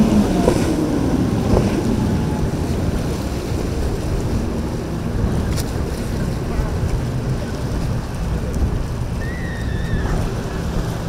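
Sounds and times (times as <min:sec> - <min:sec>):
boat engines rumbling: 0:00.0 - 0:11.0
surf: 0:00.0 - 0:11.0
wind buffeting microphone: 0:00.0 - 0:11.0.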